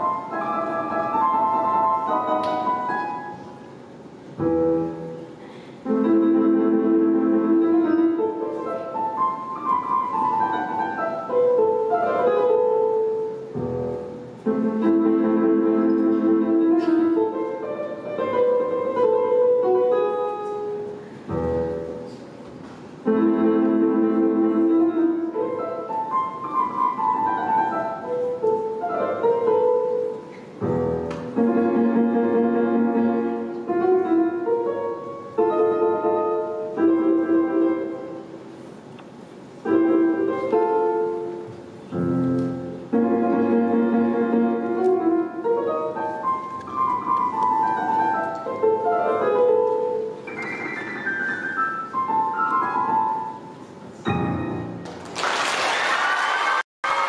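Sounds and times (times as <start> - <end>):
solo piano chords and melody: 0.0 - 55.1.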